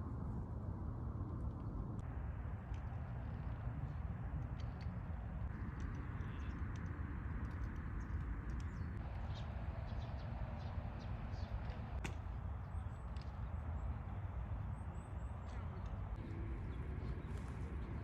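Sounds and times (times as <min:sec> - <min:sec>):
small birds chirping faintly: 0:02.0 - 0:18.0.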